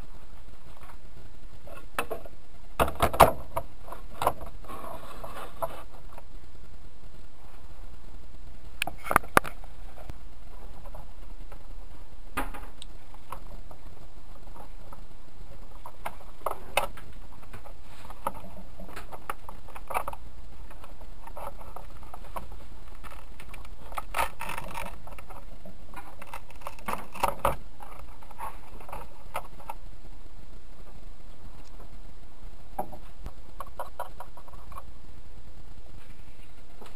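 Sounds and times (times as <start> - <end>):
steady background hiss: 0.0 - 36.9.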